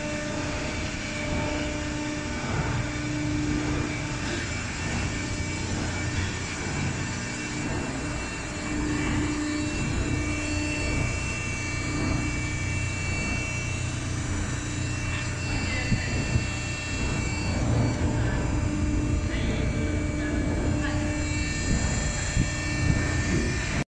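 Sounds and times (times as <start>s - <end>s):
faint steady whine: 0.0s - 23.8s
electric motor and pump drone: 0.0s - 23.9s.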